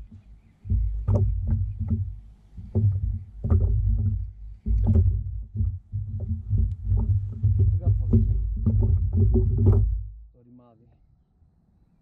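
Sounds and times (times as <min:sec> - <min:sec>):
knocks and rubbing on kayak: 0:00.0 - 0:10.2
steady low rumble: 0:00.0 - 0:10.3.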